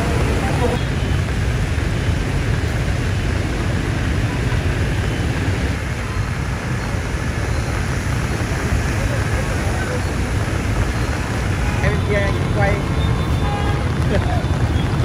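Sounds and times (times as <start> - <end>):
heavy rain: 0.0 - 15.0
traffic driving through water: 0.0 - 15.0.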